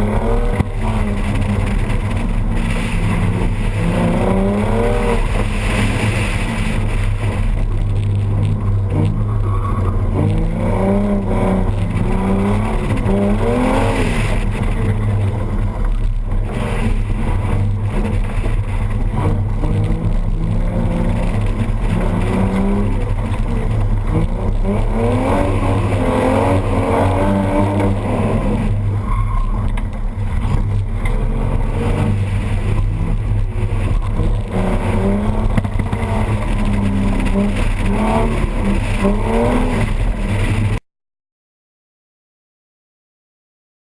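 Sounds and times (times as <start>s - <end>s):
car engine revving: 0.0s - 40.8s.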